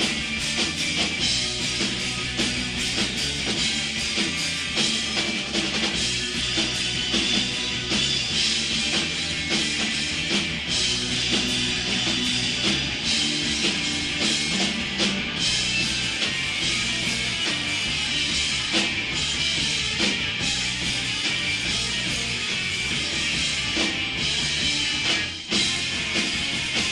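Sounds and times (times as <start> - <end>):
bass: 0.0 - 26.9
electric guitar: 0.0 - 26.9.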